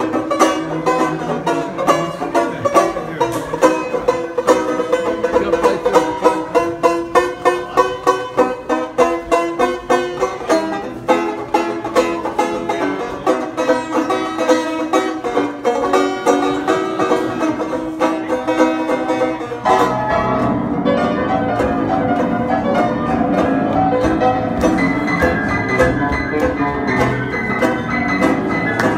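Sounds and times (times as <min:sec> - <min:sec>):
banjo picking lively tune: 0:00.0 - 0:28.9
upright piano chords: 0:00.0 - 0:28.9.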